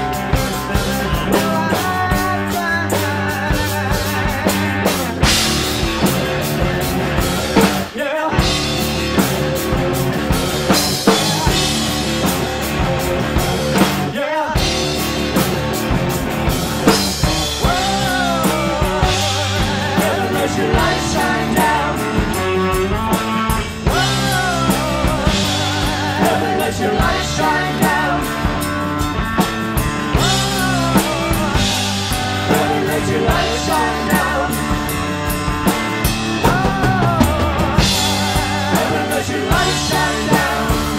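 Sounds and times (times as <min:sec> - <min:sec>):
person singing lead vocal: 0:00.0 - 0:13.0, 0:13.6 - 0:15.4, 0:16.8 - 0:40.9
rock band playing: 0:00.0 - 0:40.9.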